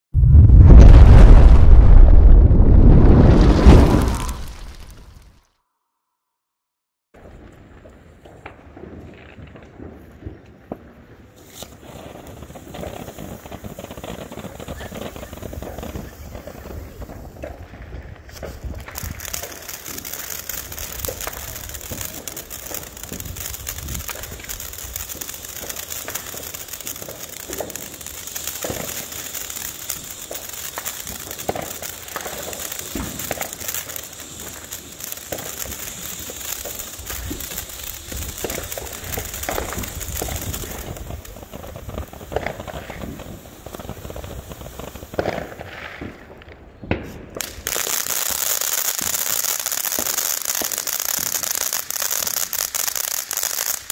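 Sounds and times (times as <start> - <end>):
fountain firework hissing and crackling: 2.8 - 5.4, 11.1 - 46.4, 47.0 - 53.9.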